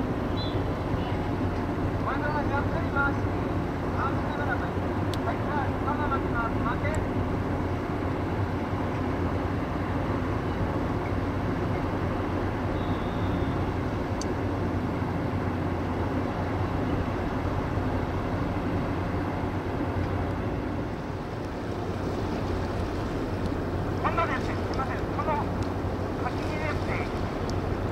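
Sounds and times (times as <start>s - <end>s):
ship machinery droning: 0.0s - 27.9s.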